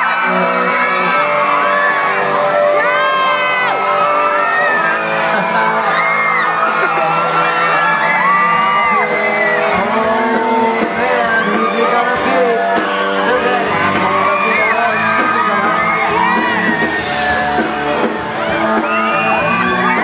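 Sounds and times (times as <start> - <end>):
amplified pop music with singer: 0.0 - 20.0
crowd screaming and whooping: 0.0 - 20.0.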